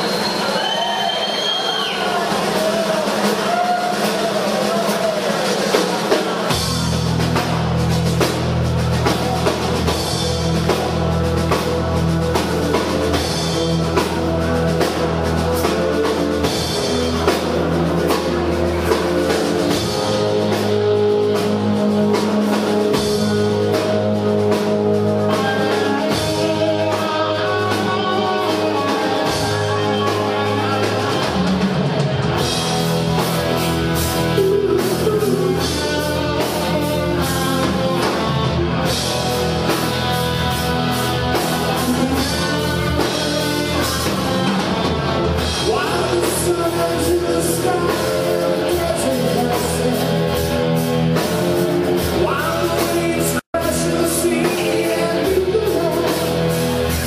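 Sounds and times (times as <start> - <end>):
drum kit: 0.0 - 57.0
electric guitar: 5.7 - 57.0.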